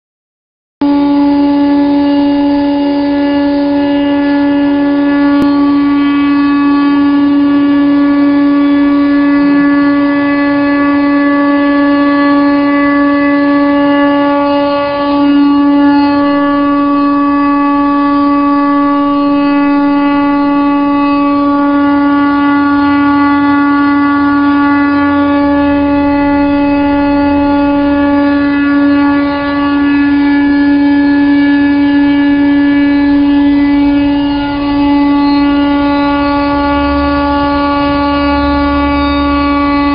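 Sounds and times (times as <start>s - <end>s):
stone router spindle cutting: 0.8s - 39.9s.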